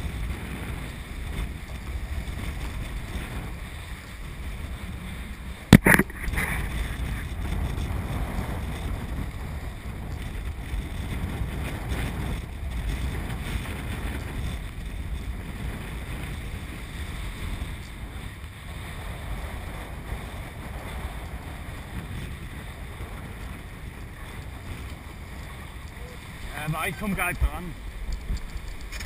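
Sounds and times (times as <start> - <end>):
water splashing along boat hull: 0.0 - 29.0
wind buffeting microphone: 0.0 - 29.0.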